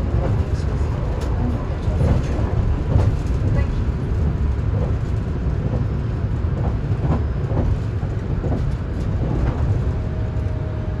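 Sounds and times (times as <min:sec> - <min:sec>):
train rumbling over rails: 0:00.0 - 0:11.0.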